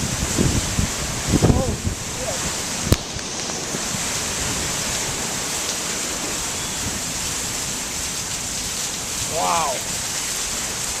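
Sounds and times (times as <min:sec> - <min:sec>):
heavy rain downpour: 0:00.0 - 0:11.0
strong wind: 0:00.0 - 0:11.0.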